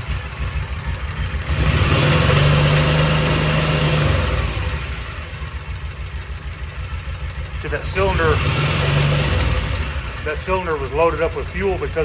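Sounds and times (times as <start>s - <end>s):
engine idling and revving: 0.0s - 12.0s.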